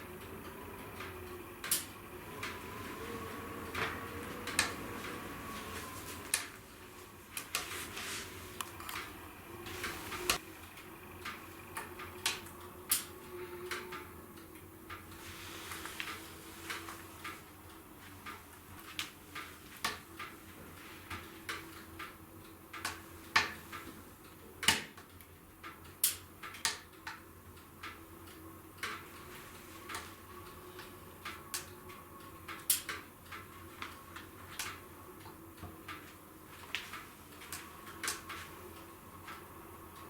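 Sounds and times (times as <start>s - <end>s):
faint steady hum: 0.0s - 40.0s
wood fire crackling: 0.0s - 40.0s.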